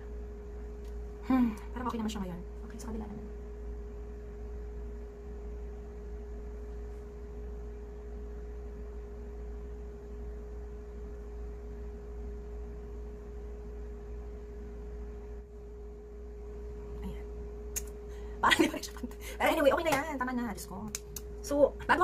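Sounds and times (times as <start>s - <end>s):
constant pure tone: 0.0s - 22.0s
steady low hum: 0.0s - 22.0s.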